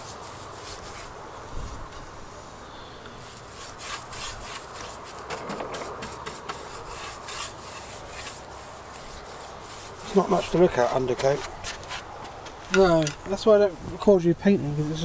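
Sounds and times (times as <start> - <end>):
paintbrush strokes on wood: 0.0 - 12.4.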